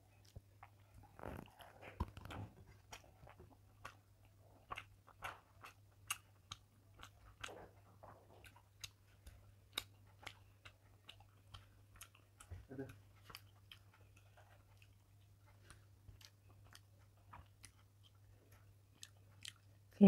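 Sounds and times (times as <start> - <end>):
chewing with wet mouth clicks: 0.0 - 20.0.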